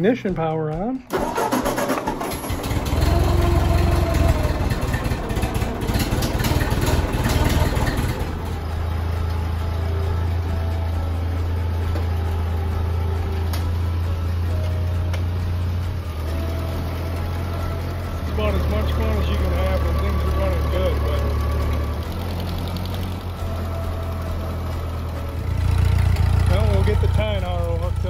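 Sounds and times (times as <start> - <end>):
tractor engine running: 1.1 - 28.0.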